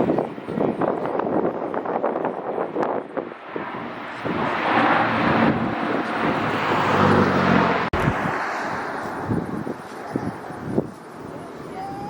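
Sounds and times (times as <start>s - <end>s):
aircraft flying past: 0.0s - 11.8s.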